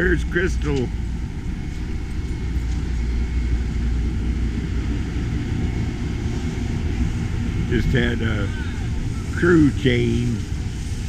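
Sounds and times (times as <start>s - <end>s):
faint steady whine: 0.0s - 11.0s
train low rumble: 0.0s - 11.0s.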